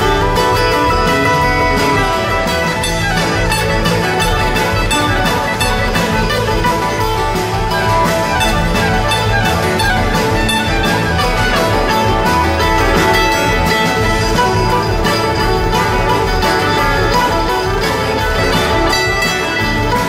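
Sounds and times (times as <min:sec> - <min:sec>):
string band with drums: 0:00.0 - 0:20.0.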